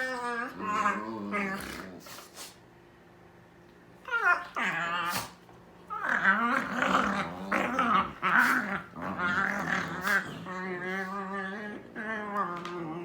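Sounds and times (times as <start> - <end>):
dog growling and snarling: 0.0 - 2.4, 4.1 - 13.0.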